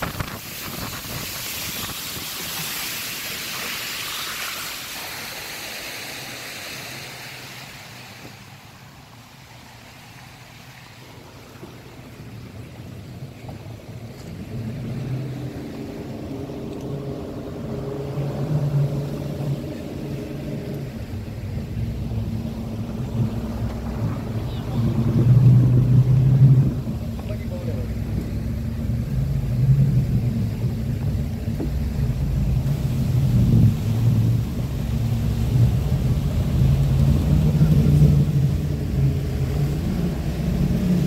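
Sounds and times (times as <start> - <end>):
boat engines humming: 0.0 - 41.0
water and wind rushing past hull: 0.0 - 41.0.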